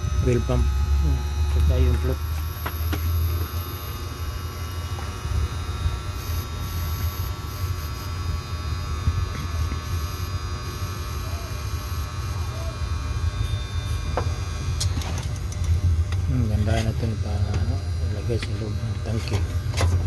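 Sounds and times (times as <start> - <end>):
faint whining tones: 0.0 - 20.0
low mechanical hum: 0.0 - 20.0.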